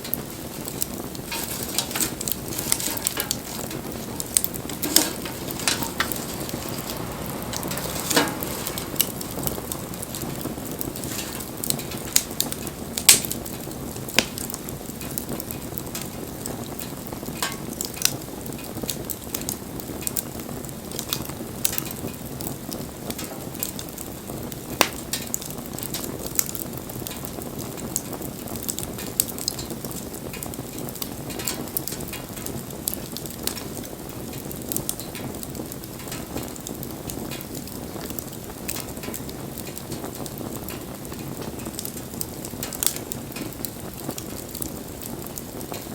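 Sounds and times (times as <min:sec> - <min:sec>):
fire crackling and popping: 0:00.0 - 0:45.9
wood fire hissing: 0:00.0 - 0:45.9.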